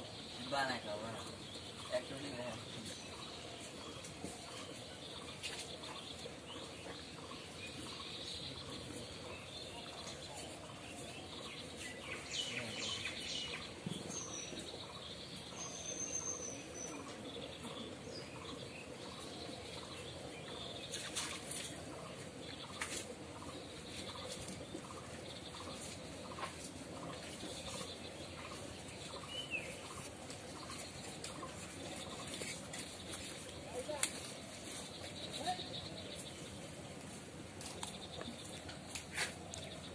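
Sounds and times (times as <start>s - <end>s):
bird chirps: 0.0s - 34.0s.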